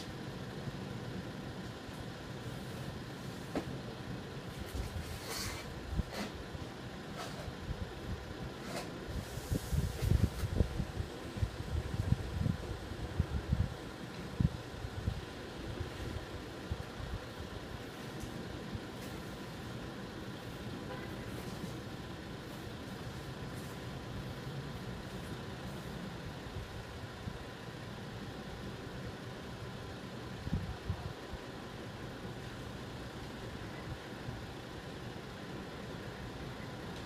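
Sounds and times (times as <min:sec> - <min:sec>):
diesel engines idling: 0:00.0 - 0:37.0.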